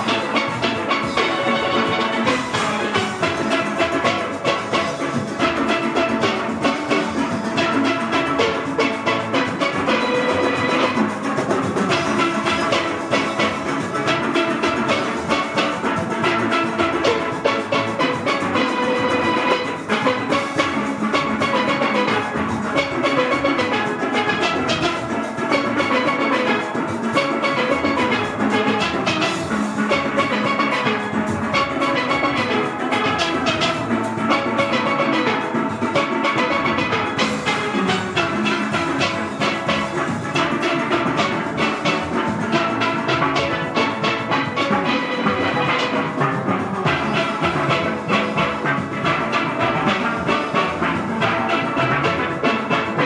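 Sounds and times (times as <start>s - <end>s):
steel pan orchestra playing: 0.0s - 53.0s.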